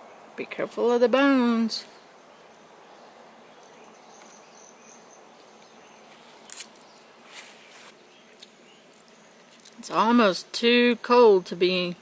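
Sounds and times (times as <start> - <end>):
faint high insect sound: 1.3 - 12.0.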